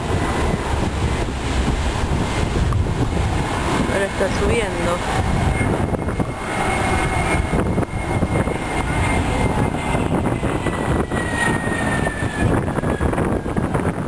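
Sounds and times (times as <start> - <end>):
jet engines roaring with whine: 0.0 - 14.0.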